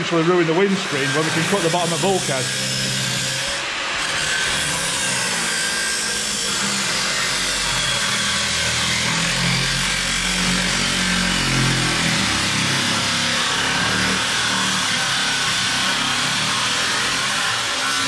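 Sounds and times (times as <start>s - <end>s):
angle grinder cutting steel: 0.0s - 18.0s.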